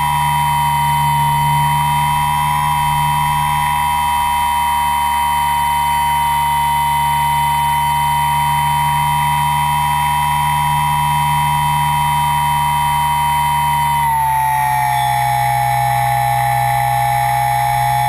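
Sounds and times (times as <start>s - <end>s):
model aircraft motor whine: 0.0s - 18.0s.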